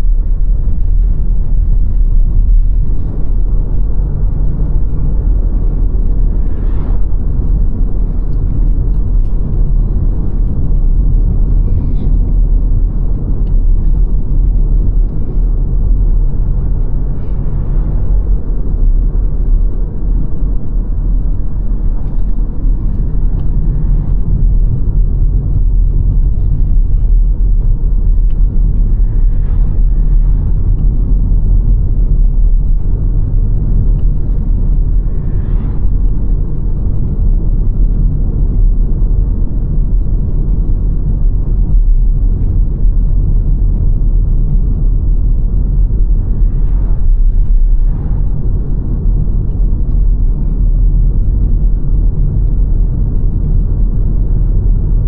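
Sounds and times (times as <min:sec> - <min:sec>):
car driving on road: 0:00.0 - 0:55.0.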